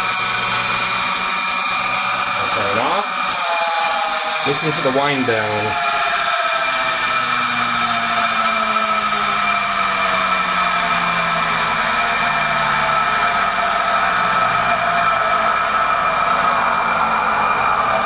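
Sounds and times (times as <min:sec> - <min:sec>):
pump motor whirring down: 0:00.0 - 0:18.0.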